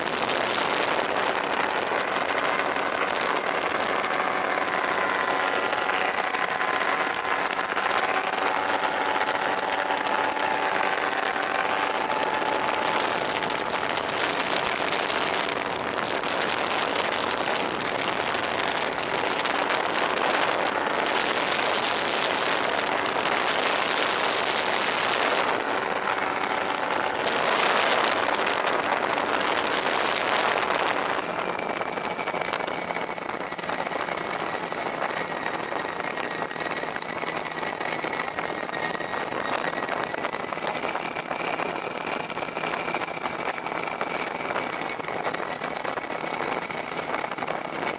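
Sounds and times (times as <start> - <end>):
ultralight aircraft engine drone: 0.0 - 47.9
wind rush on microphone: 0.0 - 47.9.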